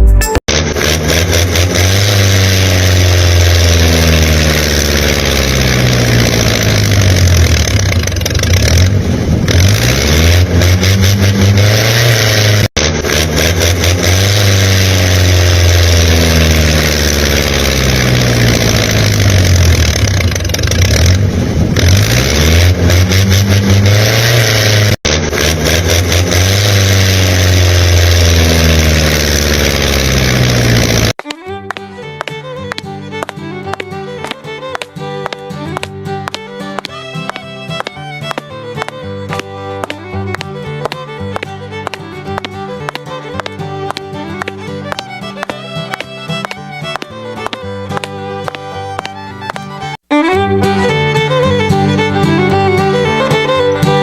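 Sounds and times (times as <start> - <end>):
engine revving: 0.4 - 54.0.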